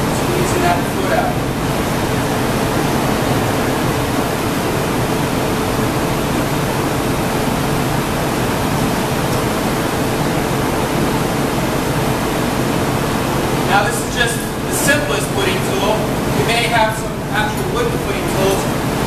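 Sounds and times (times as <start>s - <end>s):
gas furnaces rushing: 0.0s - 19.0s
large cooling fans: 0.0s - 19.0s.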